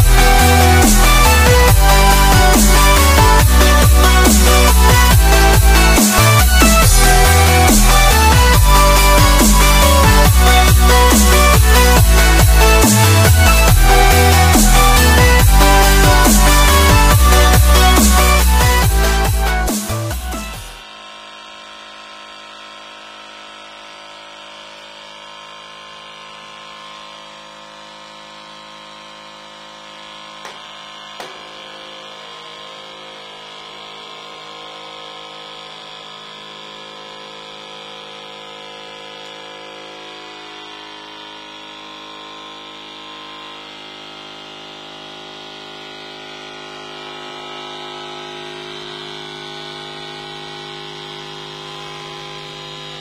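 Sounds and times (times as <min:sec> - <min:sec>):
small motor humming: 0:00.0 - 0:53.0.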